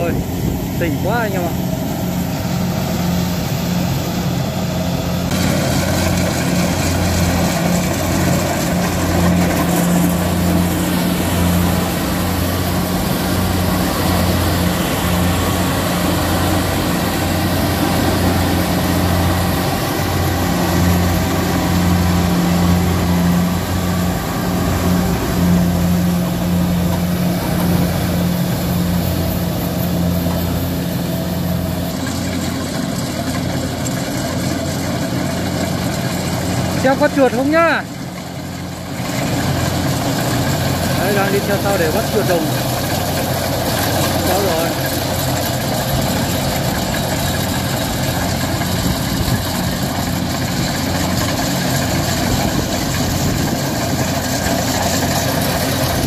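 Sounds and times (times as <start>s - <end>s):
diesel engine running: 0.0s - 56.0s
harvesting machinery noise: 0.0s - 56.0s.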